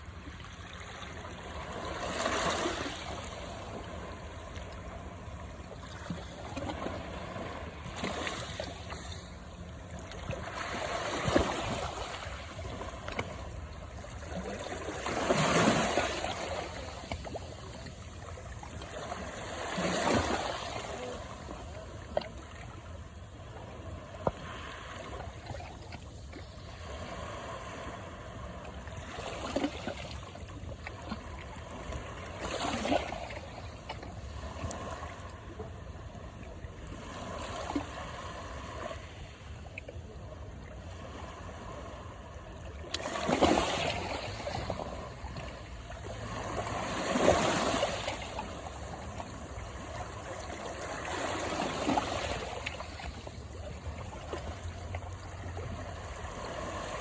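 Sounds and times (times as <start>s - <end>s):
sea waves washing on shore: 0.0s - 35.7s, 40.8s - 57.0s.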